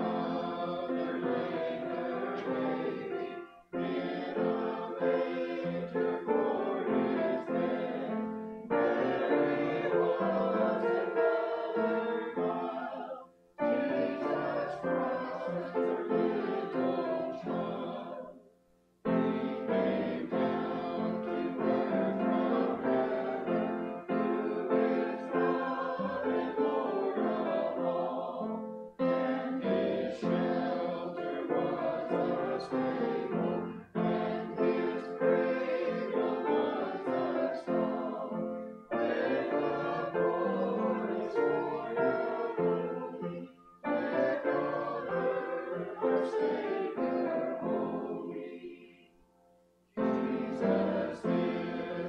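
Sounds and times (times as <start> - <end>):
piano accompaniment: 0.0 - 18.3, 19.1 - 48.7, 50.0 - 52.0
mixed choir singing: 0.0 - 49.2, 49.9 - 52.0.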